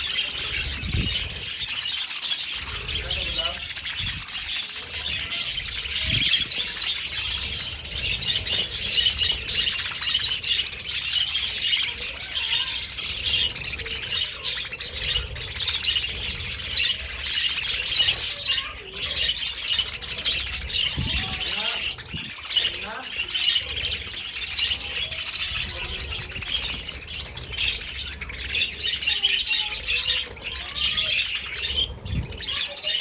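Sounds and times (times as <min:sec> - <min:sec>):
budgerigars chattering: 0:00.0 - 0:33.0.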